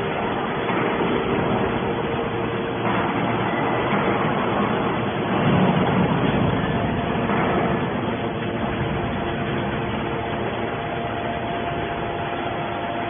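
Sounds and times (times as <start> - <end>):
can baler machine drone: 0.0 - 13.0.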